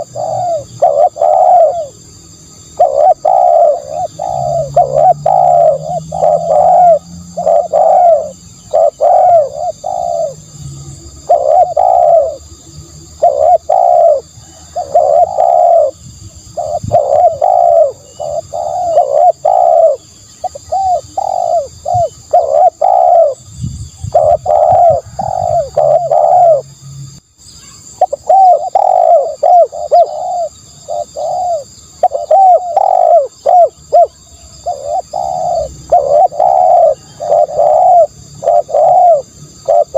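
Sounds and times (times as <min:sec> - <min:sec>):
dove cooing: 0:00.0 - 0:26.8, 0:27.8 - 0:39.9.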